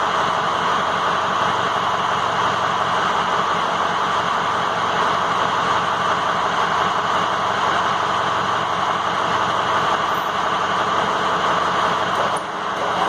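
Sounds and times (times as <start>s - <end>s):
machine drone: 0.0s - 13.0s.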